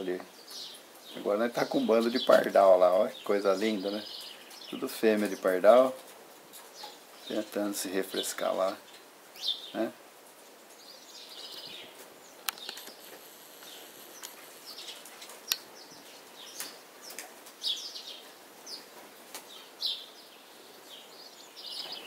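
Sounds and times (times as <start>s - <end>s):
sparrows chirping: 0.0s - 22.0s.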